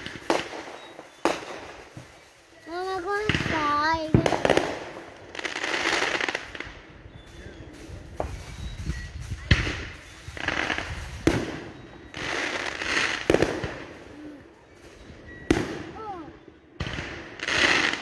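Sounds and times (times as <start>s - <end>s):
firework bangs: 0.0s - 18.0s
firework crackling: 0.0s - 18.0s.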